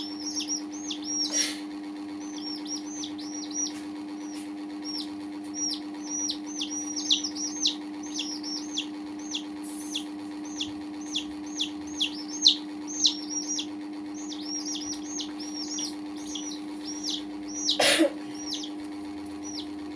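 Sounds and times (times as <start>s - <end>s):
baby chicks peeping: 0.0s - 19.9s
steady low hum: 0.0s - 19.9s.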